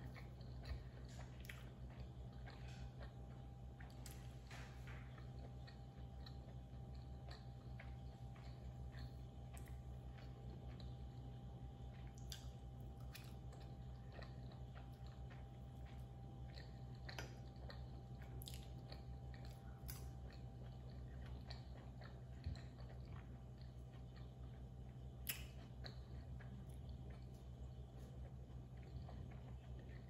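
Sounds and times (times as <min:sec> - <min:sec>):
low steady hum: 0:00.0 - 0:30.0
close chewing mouth clicks: 0:05.0 - 0:30.0.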